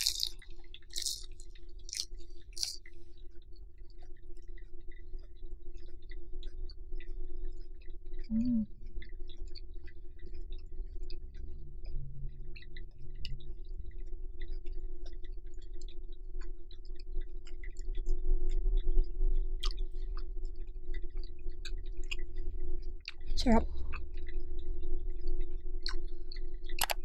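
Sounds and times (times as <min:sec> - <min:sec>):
close chewing with wet crunches: 0:00.0 - 0:27.0
steady low hum: 0:00.0 - 0:27.0.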